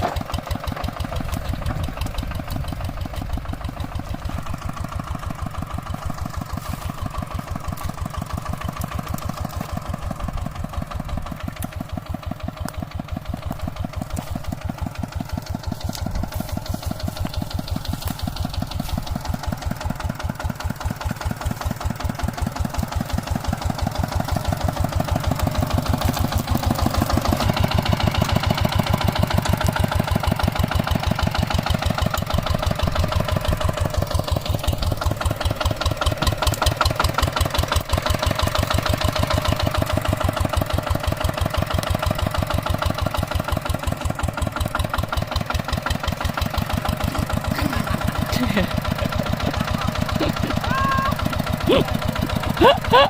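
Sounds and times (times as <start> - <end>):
hand tractor engine chugging: 0.0 - 53.0.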